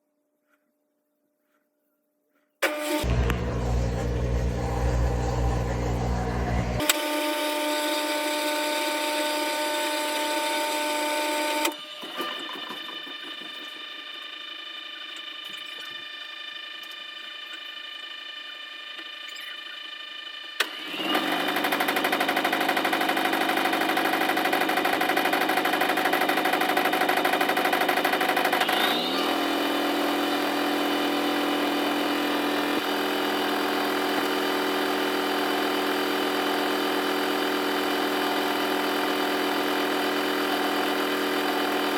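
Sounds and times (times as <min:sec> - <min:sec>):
washing machine motor whining: 0:02.6 - 0:41.9.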